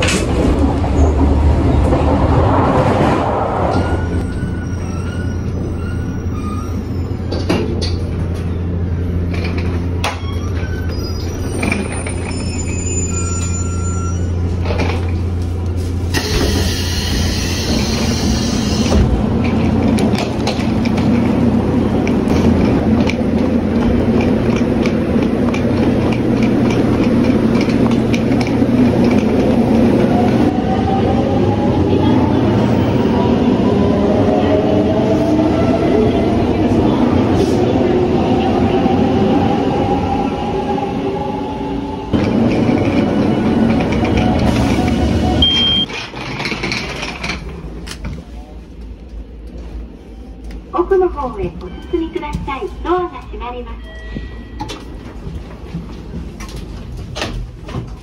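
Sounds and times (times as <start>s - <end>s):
train running hum with rattle: 0.0s - 39.9s, 41.9s - 58.0s
station platform noise: 0.0s - 58.0s.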